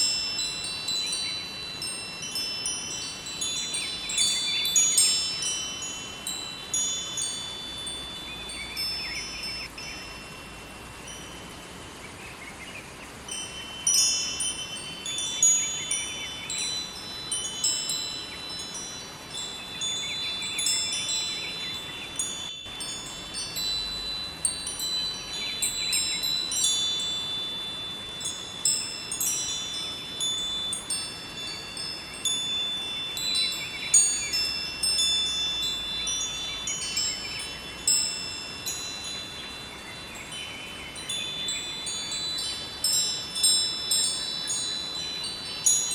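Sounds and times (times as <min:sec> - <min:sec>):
wind chimes ringing: 0:00.0 - 0:12.2, 0:12.8 - 0:45.9
river water flowing: 0:00.0 - 0:45.9.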